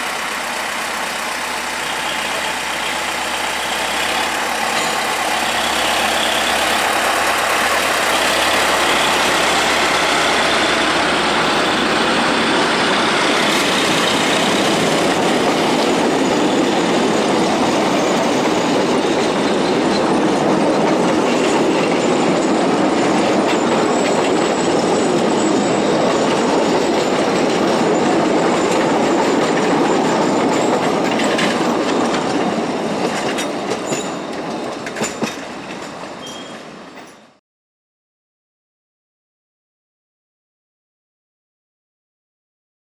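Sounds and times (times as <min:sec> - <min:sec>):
train wheels rattling over rails: 0:00.0 - 0:37.3.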